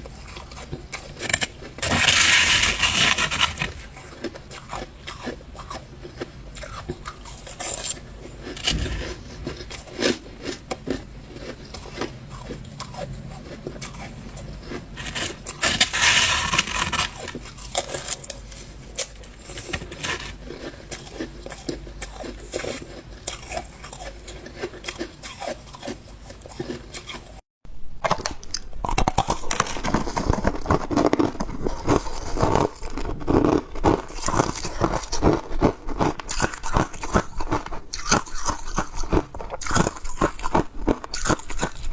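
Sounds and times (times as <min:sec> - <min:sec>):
ice crunched between teeth: 0:00.2 - 0:27.3, 0:28.1 - 0:41.9.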